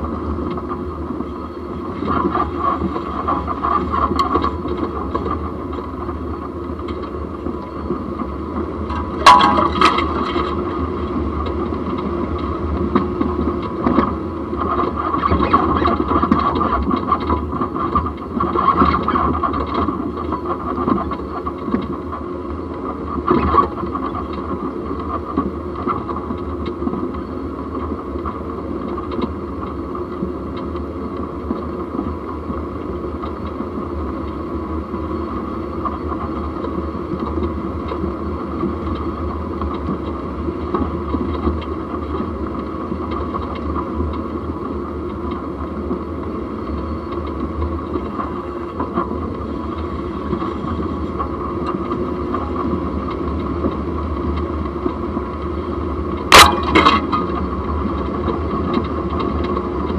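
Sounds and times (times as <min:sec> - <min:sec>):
vehicle driving noise: 0:00.0 - 0:59.9.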